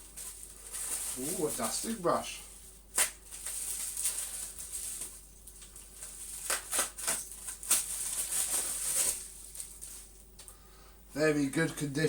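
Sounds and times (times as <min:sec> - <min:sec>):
packaging rustling and crinkling: 0:00.0 - 0:10.2.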